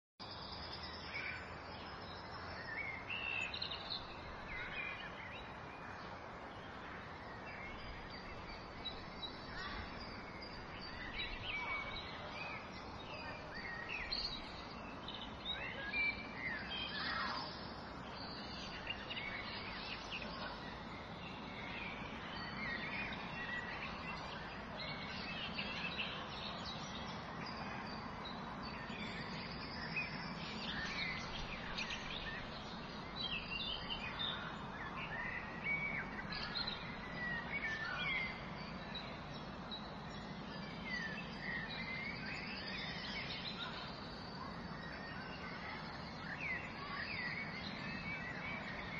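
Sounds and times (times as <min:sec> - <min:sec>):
forest ambience hiss: 0:00.2 - 0:48.9
birds chirping and calling: 0:07.3 - 0:48.9.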